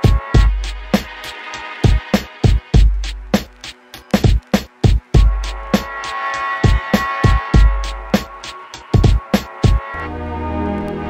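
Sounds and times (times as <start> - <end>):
drum machine hits: 0.0 - 9.9.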